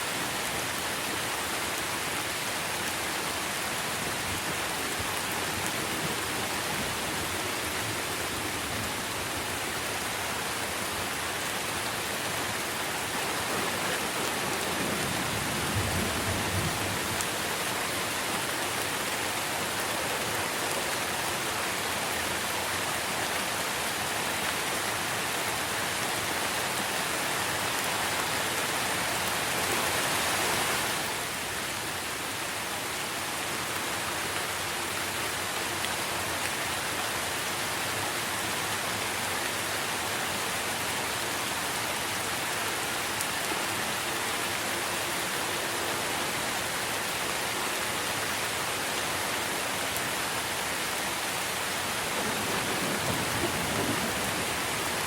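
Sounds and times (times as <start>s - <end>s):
rain on tree foliage: 0.0s - 55.0s.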